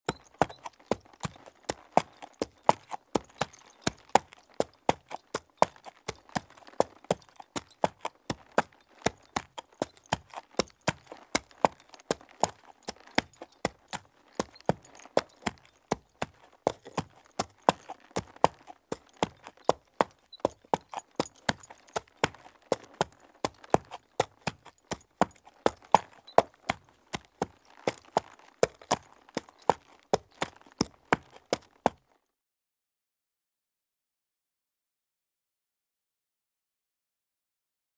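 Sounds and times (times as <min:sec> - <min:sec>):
horse hooves on dirt: 0:00.1 - 0:32.2.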